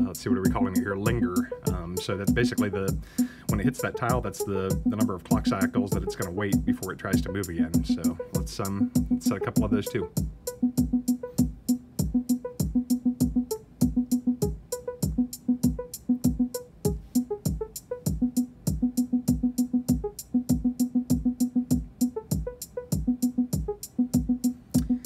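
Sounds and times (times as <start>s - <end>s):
kick drum thumps: 0.0s - 4.2s, 7.8s - 25.0s
plucked synth notes: 0.0s - 25.0s.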